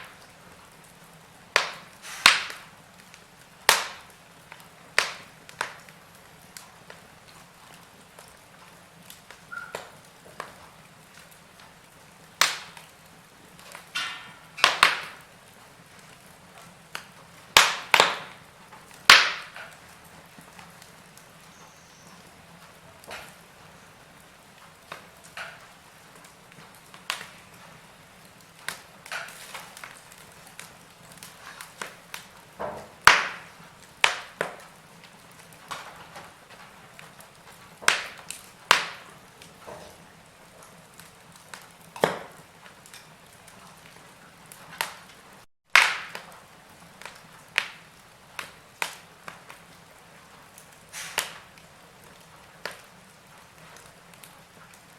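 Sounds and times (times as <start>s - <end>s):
faint steady hiss: 0.0s - 54.9s
wood fire crackling: 0.0s - 54.9s.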